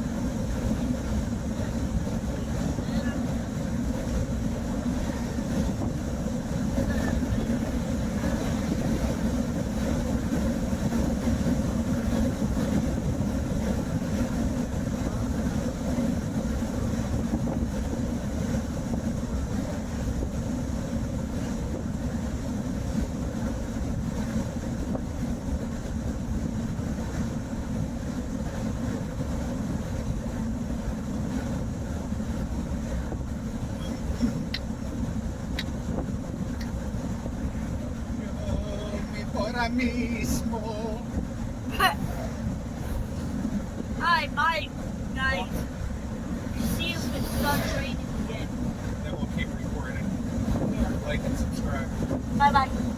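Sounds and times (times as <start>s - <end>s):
car cabin road and engine noise: 0.0s - 52.9s.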